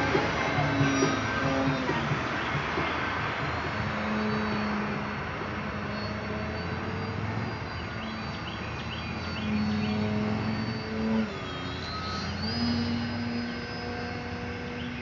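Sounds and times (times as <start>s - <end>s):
electric motor and propeller whine: 0.0s - 15.0s.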